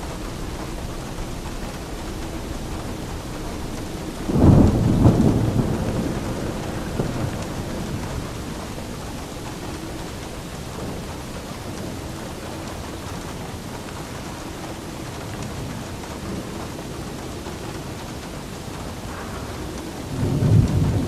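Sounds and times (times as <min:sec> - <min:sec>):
rain falling: 0:00.0 - 0:21.0
thunderclap rumbling: 0:00.0 - 0:21.0.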